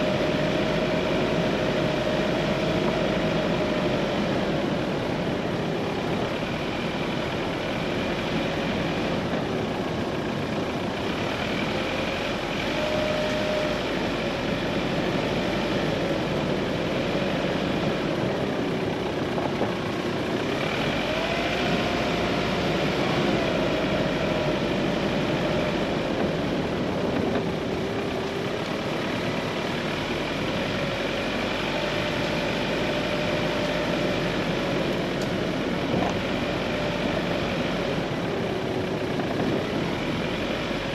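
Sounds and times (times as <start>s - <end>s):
tyre road noise: 0.0s - 40.9s
vehicle engine running: 0.0s - 40.9s.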